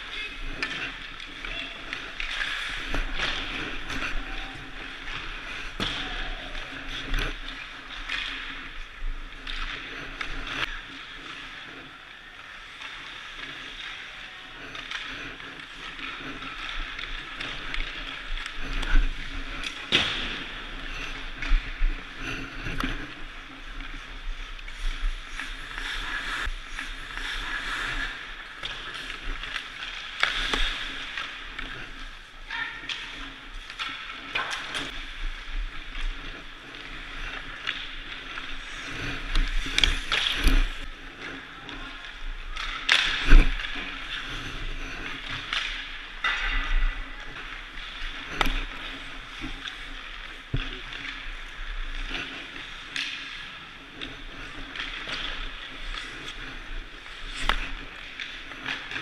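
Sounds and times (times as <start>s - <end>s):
skate blades scraping ice: 0.0s - 59.0s.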